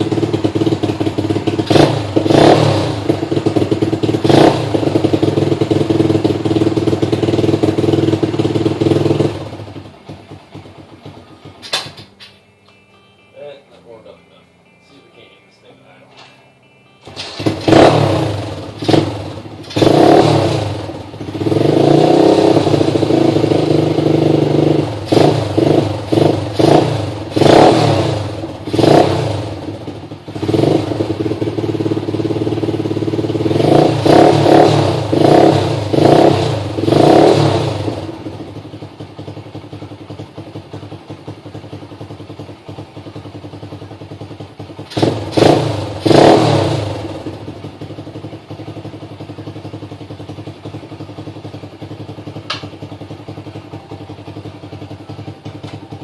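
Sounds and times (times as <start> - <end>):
dirt bike engine revving and idling: 0.0 - 11.7, 17.0 - 56.0.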